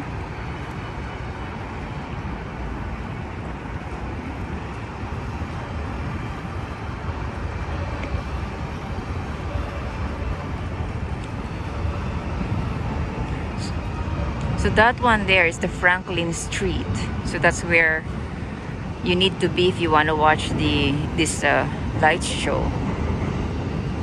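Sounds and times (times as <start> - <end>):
city background rumble: 0.0 - 24.0.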